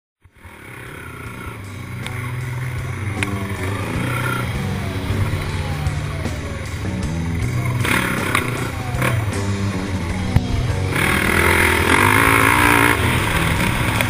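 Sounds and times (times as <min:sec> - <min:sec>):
quad bike engine revving: 0:00.2 - 0:14.0.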